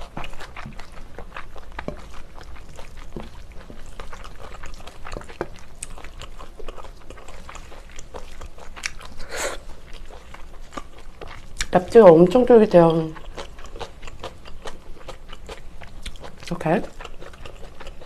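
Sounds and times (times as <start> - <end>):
wet chewing and mouth smacks: 0.0 - 18.0.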